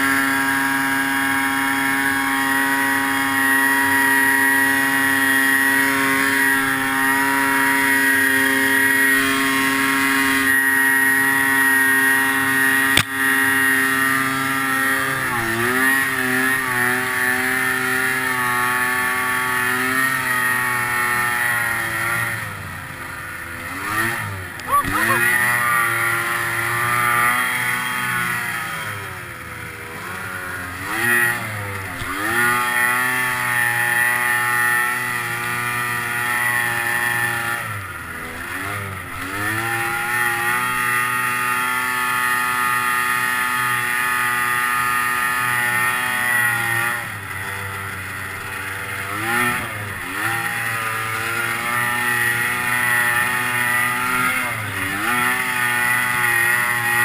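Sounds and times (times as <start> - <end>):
snowmobile engine at high revs: 0.0 - 57.0.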